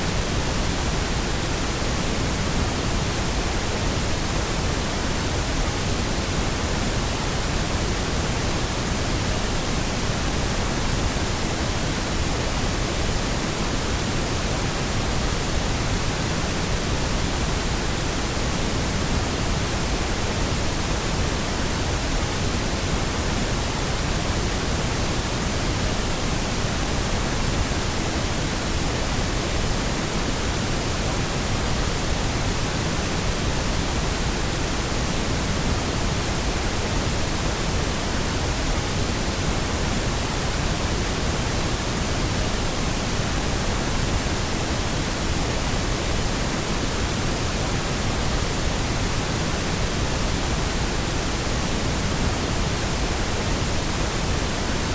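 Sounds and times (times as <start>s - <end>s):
steady pink noise hiss: 0.0s - 54.9s.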